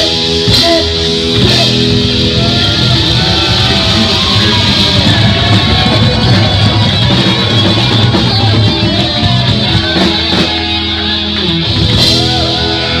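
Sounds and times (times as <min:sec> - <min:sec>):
distorted electric guitar: 0:00.0 - 0:13.0
heavy metal band playing: 0:00.0 - 0:13.0.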